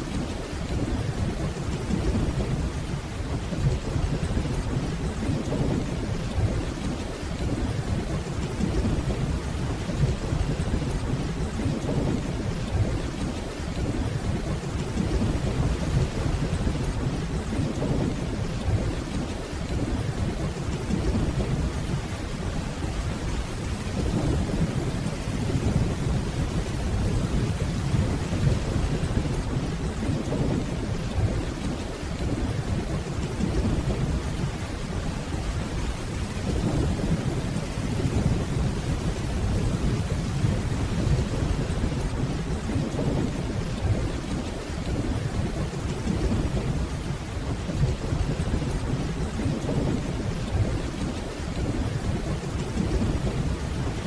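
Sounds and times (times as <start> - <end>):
steady rainfall: 0.0 - 54.0
low rolling thunder: 0.1 - 54.0.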